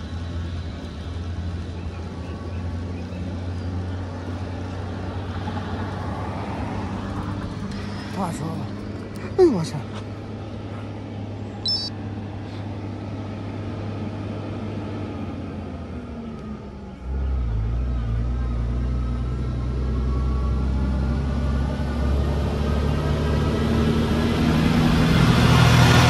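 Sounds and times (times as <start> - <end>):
heavy truck engine humming: 0.0 - 26.0.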